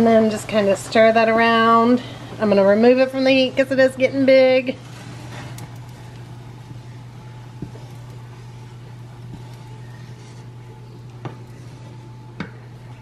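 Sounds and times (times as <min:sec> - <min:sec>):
steady low hum: 0:00.0 - 0:13.0
wooden spoon stirring pot: 0:00.0 - 0:13.0.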